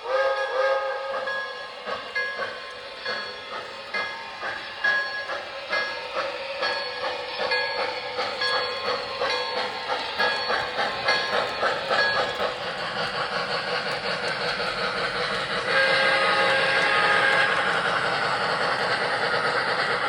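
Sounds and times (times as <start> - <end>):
model train running rhythmically: 0.0 - 20.0.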